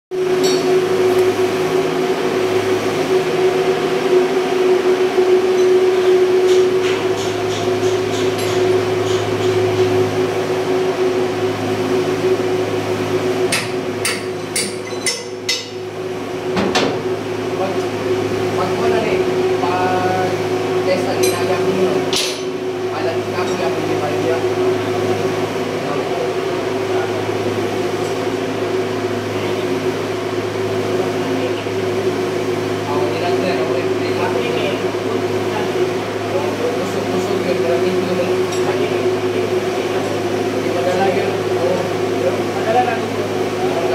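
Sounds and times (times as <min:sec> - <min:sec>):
engine-room machinery hum: 0:00.1 - 0:43.9.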